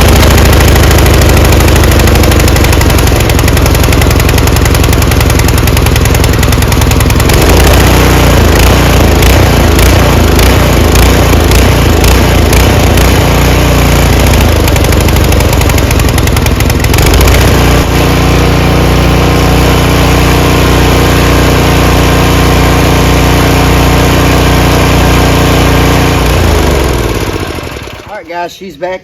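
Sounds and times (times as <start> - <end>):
small engine running: 0.0 - 28.5.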